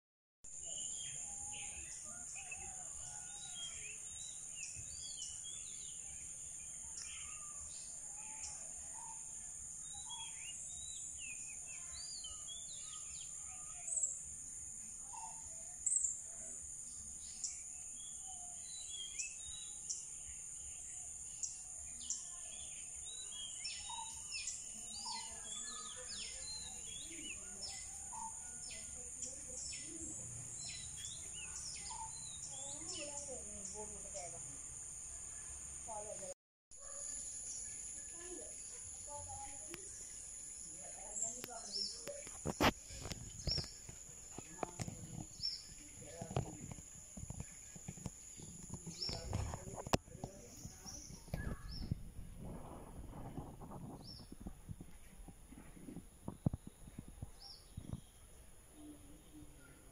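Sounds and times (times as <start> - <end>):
bird chirps: 0.5 - 36.0, 36.8 - 54.6.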